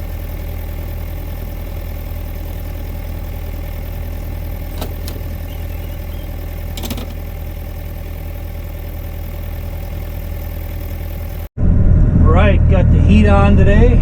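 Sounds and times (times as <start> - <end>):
mini excavator diesel engine: 0.0 - 14.0.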